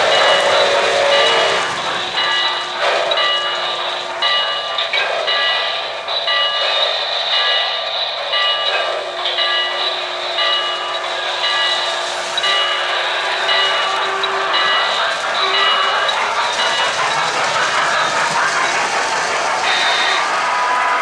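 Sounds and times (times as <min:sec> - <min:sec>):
model steam train rushing: 0:00.0 - 0:21.0.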